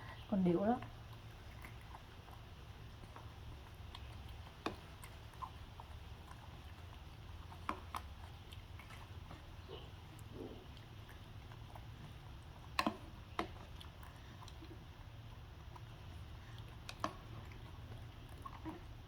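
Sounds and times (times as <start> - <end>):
low steady hum: 0.0 - 19.0
monkey chewing and smacking: 0.1 - 19.0.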